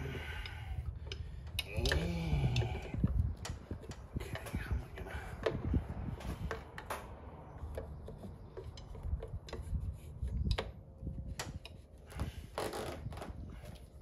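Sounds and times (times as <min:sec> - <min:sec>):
tools clicking and tapping on metal: 0:00.4 - 0:12.0.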